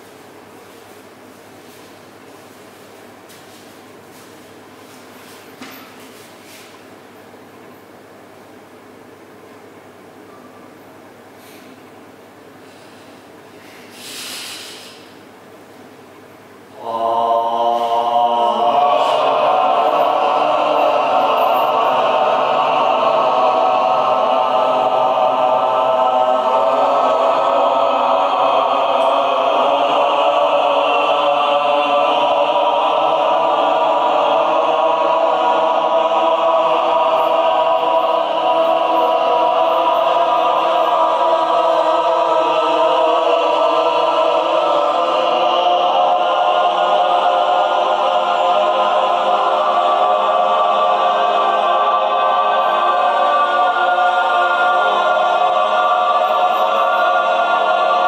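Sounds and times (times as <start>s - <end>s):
group chanting a steady drone: 0.0s - 7.0s, 16.6s - 58.0s.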